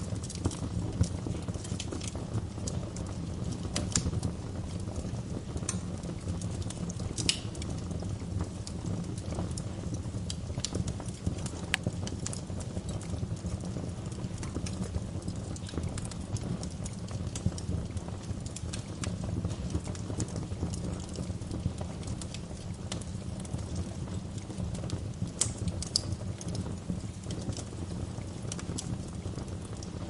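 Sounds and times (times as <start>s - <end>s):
low rumble of fire: 0.0s - 30.0s
wood fire crackling and popping: 0.0s - 30.0s.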